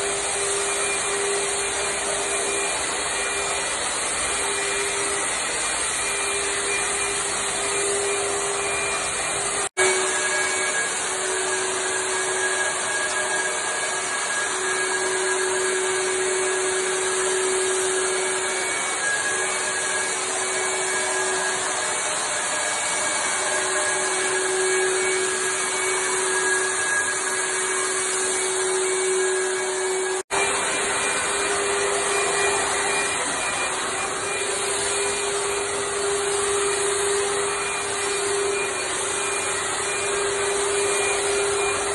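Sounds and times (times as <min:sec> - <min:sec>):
fogger motor humming: 0:00.0 - 0:41.9.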